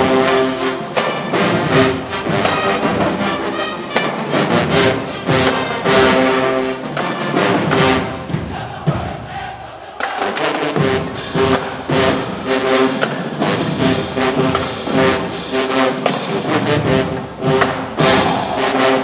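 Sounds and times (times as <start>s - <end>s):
brass chords: 0.0s - 8.7s, 10.1s - 19.0s
drumline hits: 0.0s - 19.0s.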